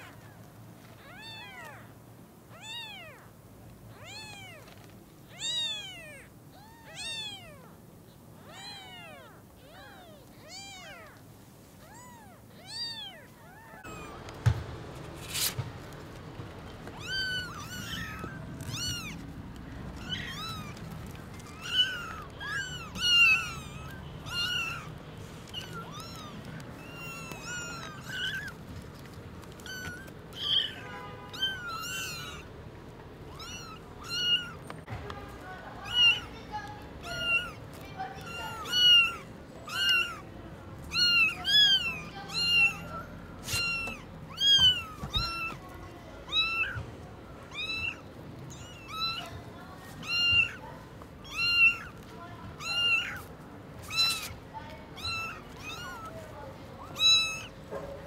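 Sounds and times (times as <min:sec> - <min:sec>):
kittens mewing: 0:00.0 - 0:07.8, 0:08.4 - 0:14.4, 0:15.2 - 0:58.0.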